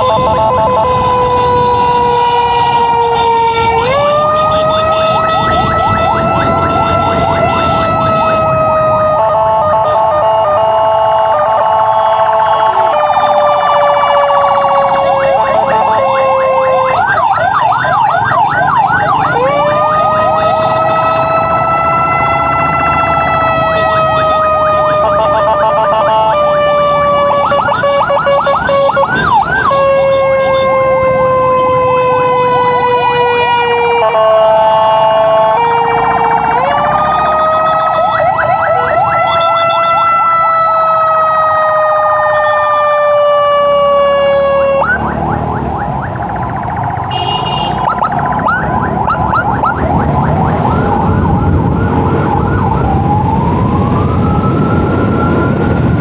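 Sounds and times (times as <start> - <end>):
fast yelping siren: 0.0 - 56.0
steady siren tone: 0.0 - 56.0.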